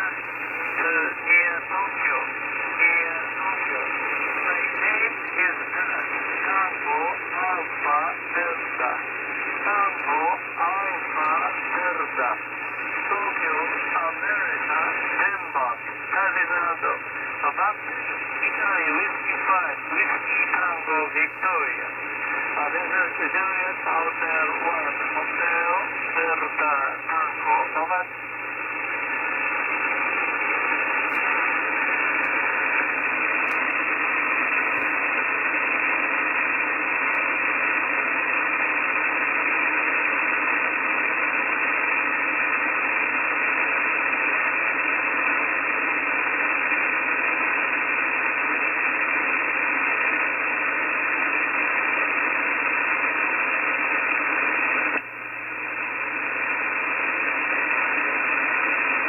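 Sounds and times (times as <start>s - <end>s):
radio receiver hiss: 0.0s - 59.0s.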